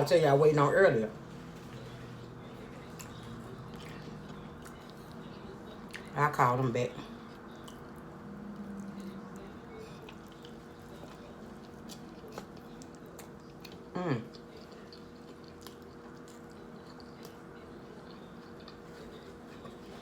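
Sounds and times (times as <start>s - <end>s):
steady background hum: 0.0s - 20.0s
soft chewing: 1.1s - 20.0s.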